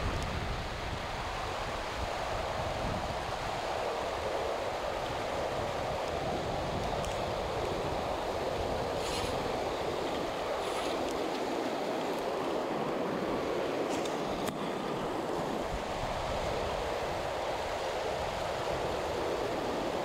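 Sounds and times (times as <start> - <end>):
river running over stones: 0.0 - 20.0.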